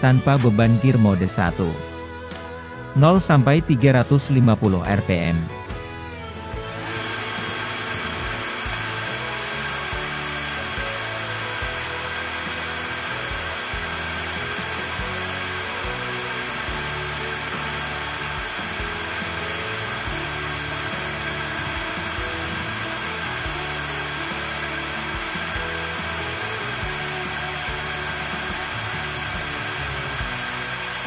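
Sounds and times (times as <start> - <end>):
background music with steady beat: 0.0 - 31.0
cordless drill whirring: 6.1 - 31.0.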